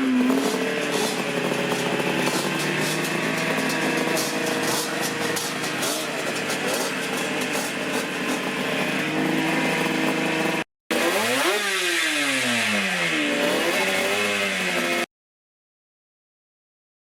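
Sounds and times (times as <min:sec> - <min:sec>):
motorcycle engine revving: 0:00.0 - 0:15.1
two-stroke motorcycle engines: 0:00.0 - 0:15.1.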